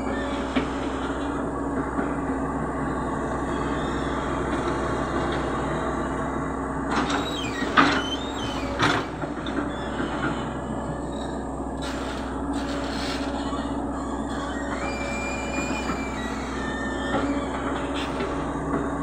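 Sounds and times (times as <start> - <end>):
excavator diesel engine running: 0.0 - 19.0
metallic clanks and squeals: 0.0 - 19.0.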